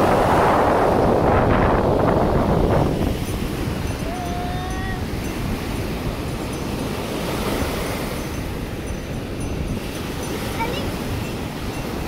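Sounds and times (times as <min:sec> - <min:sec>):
surf washing up a beach: 0:00.0 - 0:12.0
wind buffeting microphone: 0:00.0 - 0:12.0.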